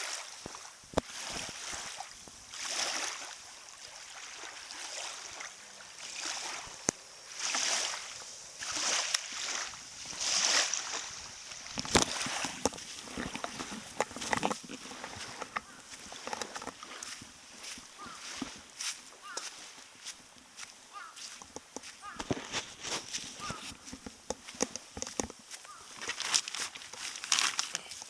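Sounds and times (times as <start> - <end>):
small waves lapping at shore: 0.0 - 28.0.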